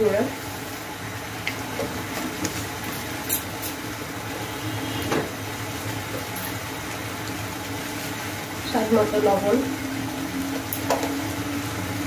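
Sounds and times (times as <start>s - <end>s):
masala simmering in oil: 0.0s - 12.0s.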